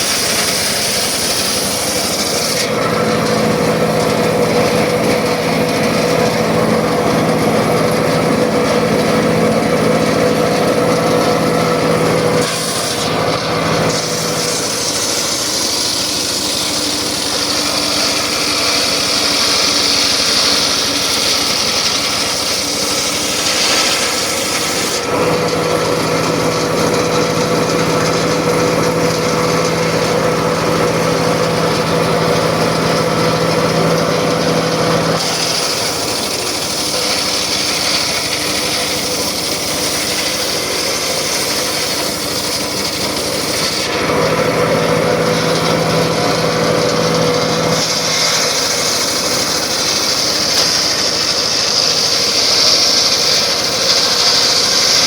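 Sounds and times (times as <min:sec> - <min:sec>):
circular saw cutting wood: 0:00.0 - 0:55.0.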